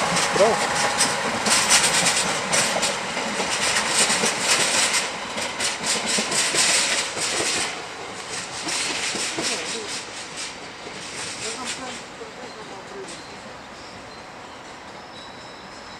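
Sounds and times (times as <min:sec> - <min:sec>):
train wheels clattering: 0:00.0 - 0:15.9.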